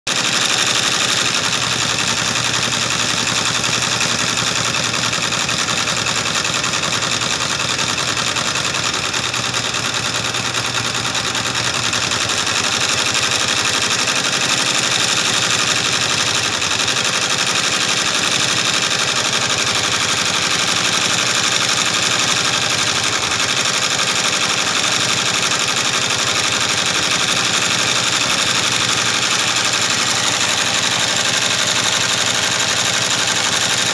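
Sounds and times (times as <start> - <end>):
embroidery machine stitching: 0.1 - 33.9.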